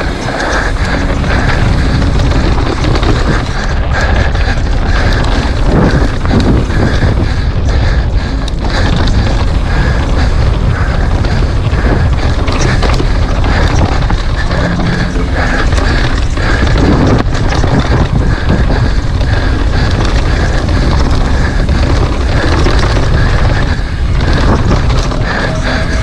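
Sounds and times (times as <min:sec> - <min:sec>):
bike rattling and knocking: 0:00.0 - 0:26.0
wind buffeting microphone: 0:00.0 - 0:26.0.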